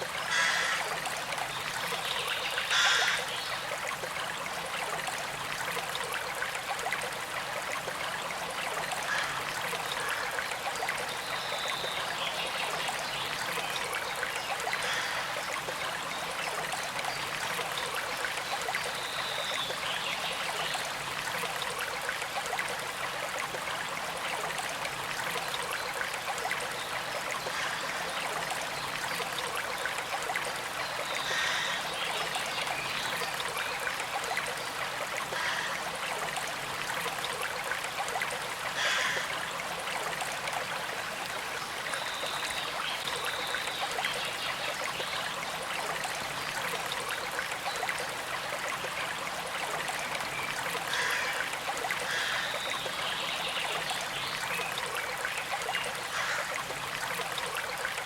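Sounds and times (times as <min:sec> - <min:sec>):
creek flowing: 0:00.0 - 0:58.0
water trickling: 0:00.0 - 0:58.0.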